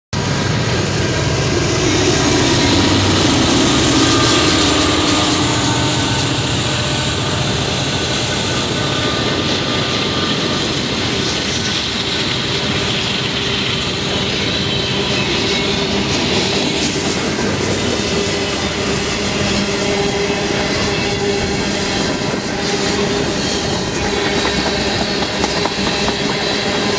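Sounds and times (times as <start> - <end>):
diesel locomotive engine: 0.1 - 26.9
freight cars rolling on rails: 0.2 - 26.9.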